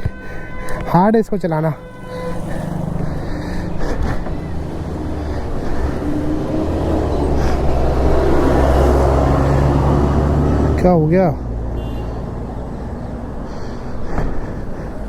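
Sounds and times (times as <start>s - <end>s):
vehicle engine running at low revs: 1.9s - 15.0s.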